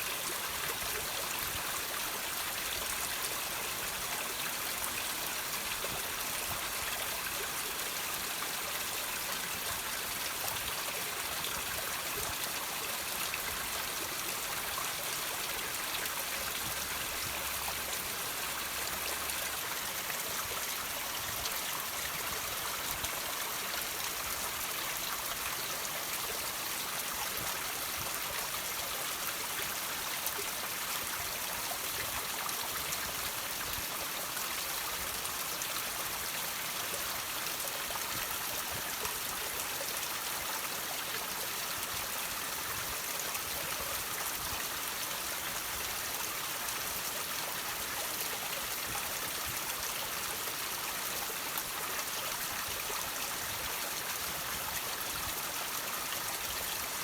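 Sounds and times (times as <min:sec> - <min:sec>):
water trickling over rocks: 0:00.0 - 0:57.0.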